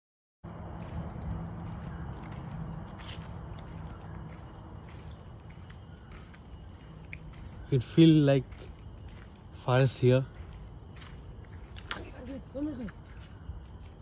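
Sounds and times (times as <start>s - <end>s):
faint footsteps: 0.5s - 14.0s
forest insects chorus: 0.5s - 14.0s.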